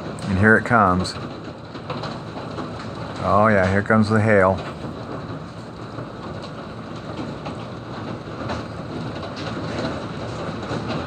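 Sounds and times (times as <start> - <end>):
hail and rain pelting: 0.0 - 11.0.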